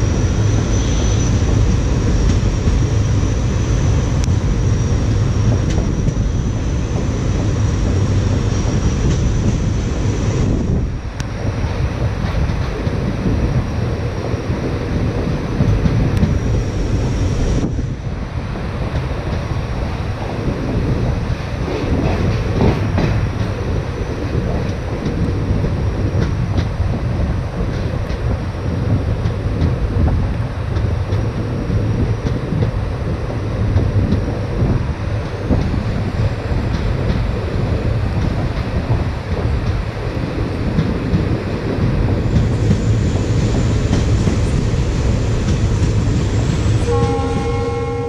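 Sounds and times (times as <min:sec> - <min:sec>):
rail noise: 0:00.0 - 0:48.0
train coaches rumbling on track: 0:00.0 - 0:48.0.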